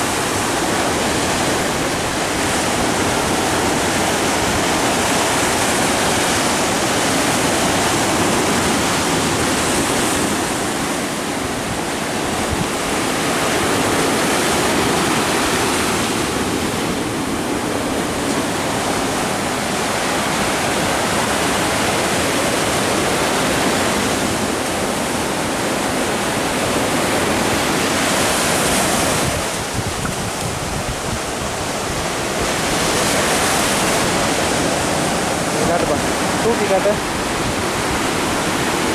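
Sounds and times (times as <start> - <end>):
sea surf breaking on shore: 0.0 - 38.9.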